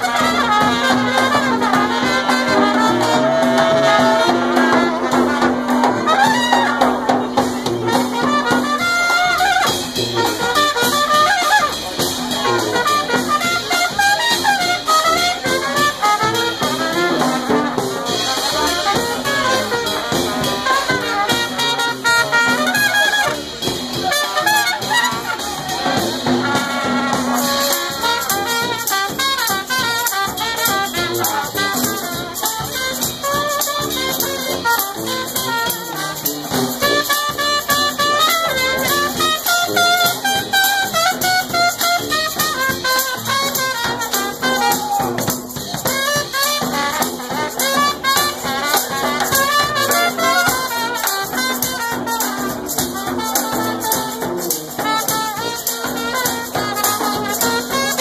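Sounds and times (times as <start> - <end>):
bass drum: 0.0 - 58.0
brass band playing upbeat tune: 0.0 - 58.0.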